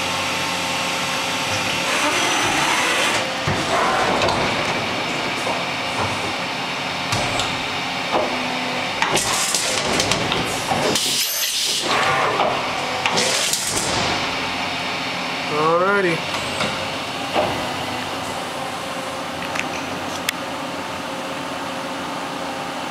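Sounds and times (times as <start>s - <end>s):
steady machine noise: 0.0s - 20.0s.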